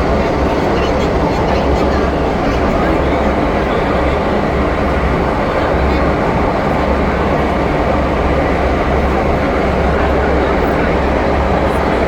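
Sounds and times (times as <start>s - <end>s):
train rumbling in tunnel: 0.0s - 12.0s.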